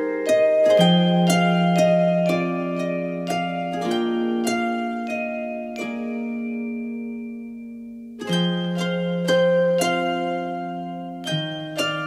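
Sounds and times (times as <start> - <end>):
gentle plucked notes: 0.0 - 12.0.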